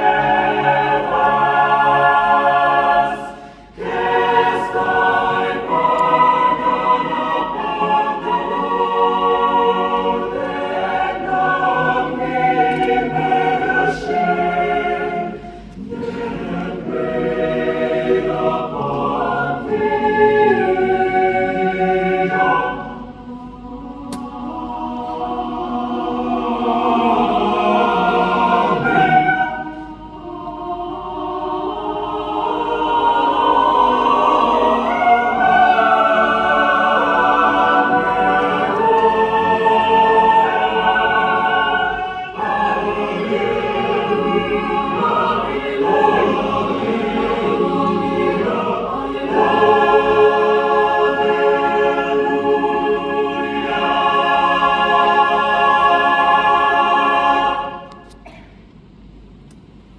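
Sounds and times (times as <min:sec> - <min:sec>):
choir singing held chords: 0:00.0 - 0:58.4.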